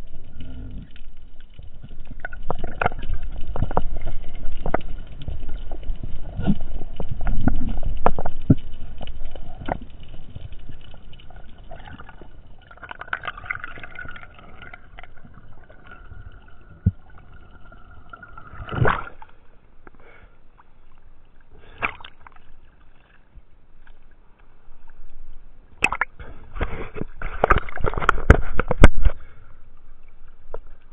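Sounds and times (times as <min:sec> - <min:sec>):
faint steady hum: 0:00.0 - 0:30.9
water sloshing and gurgling: 0:00.0 - 0:30.9.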